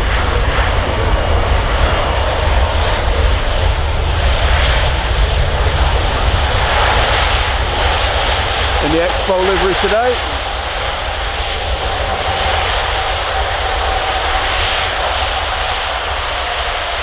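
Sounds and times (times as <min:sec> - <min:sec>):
jet engines roaring in reverse thrust: 0:00.0 - 0:17.0.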